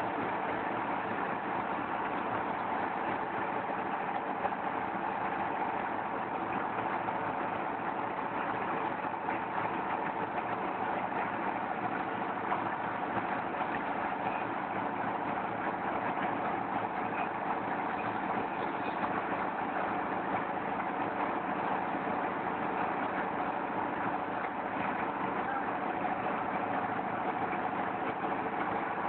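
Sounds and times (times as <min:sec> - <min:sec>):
machine engine droning: 0:00.0 - 0:29.0.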